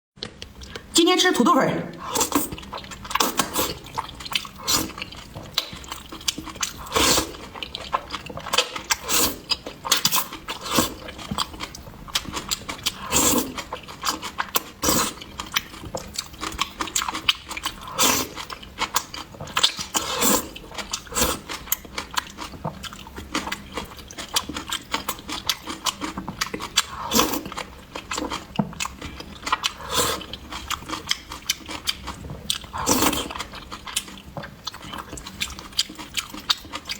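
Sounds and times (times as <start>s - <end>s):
wet chewing and mouth smacks: 2.0s - 36.9s.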